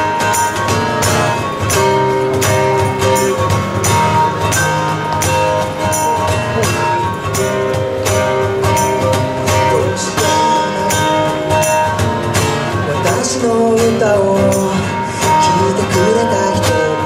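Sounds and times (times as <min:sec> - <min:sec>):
acoustic guitar: 0:00.0 - 0:17.0
held melodic notes: 0:00.0 - 0:17.0
percussion beat: 0:00.0 - 0:17.0.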